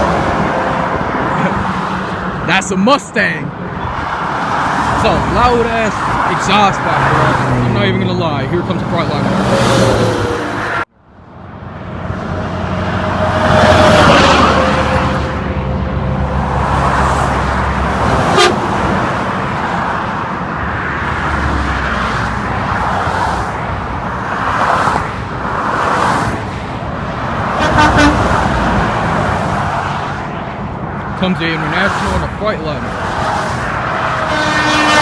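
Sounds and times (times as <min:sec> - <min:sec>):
heavy highway traffic: 0:00.0 - 0:35.0
truck passing close by: 0:03.8 - 0:35.0.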